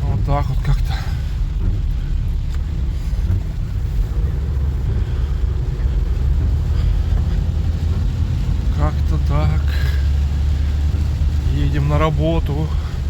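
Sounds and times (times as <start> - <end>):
vehicle interior engine and road rumble: 0.0 - 13.0.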